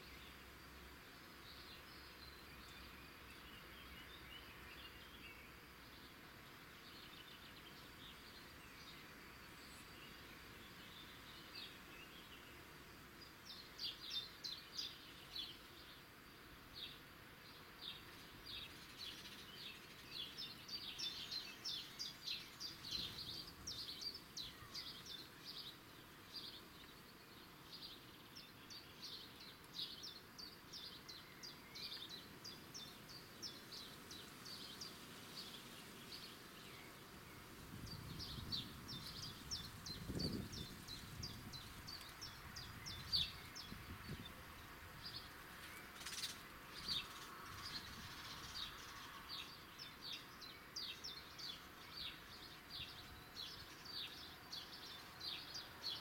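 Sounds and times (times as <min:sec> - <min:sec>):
small songbirds chirping: 0:00.0 - 0:56.0
soft steady background hiss: 0:00.0 - 0:56.0.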